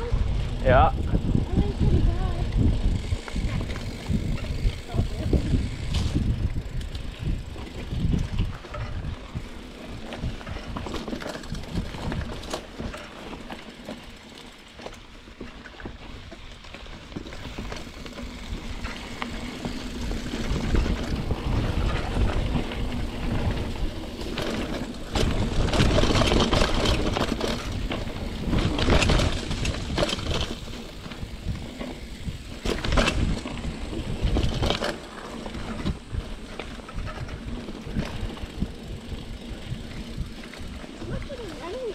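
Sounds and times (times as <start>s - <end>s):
bike chain and frame rattling: 0.0s - 41.9s
bike tyres rolling on dirt: 0.0s - 41.9s.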